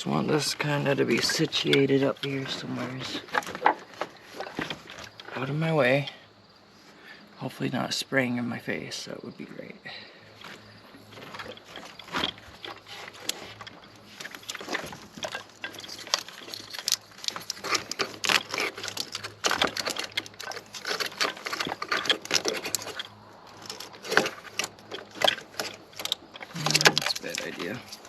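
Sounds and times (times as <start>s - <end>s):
plastic parts clicking and rattling: 0.6s - 5.5s, 10.4s - 28.0s.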